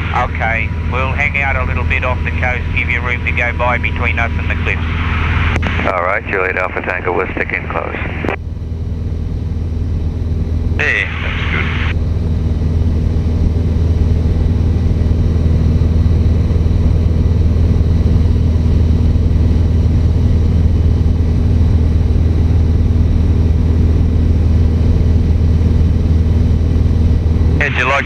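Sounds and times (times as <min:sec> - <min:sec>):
light aircraft engine drone: 0:00.0 - 0:28.0.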